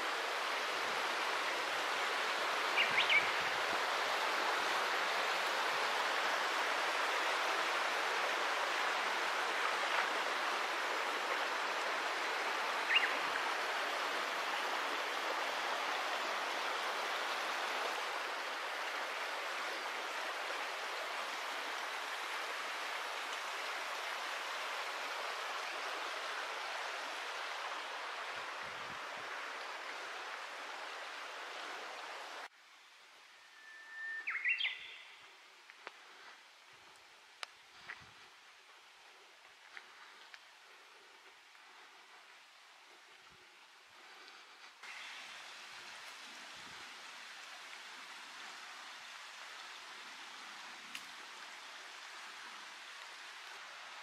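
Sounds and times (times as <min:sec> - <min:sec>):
mountain stream rushing: 0:00.0 - 0:32.6, 0:33.9 - 0:54.0.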